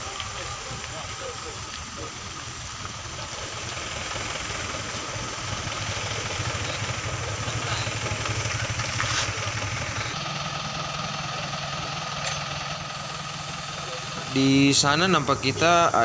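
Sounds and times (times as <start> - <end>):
diesel truck idling: 0.0 - 16.0
vehicles driving past: 0.0 - 16.0.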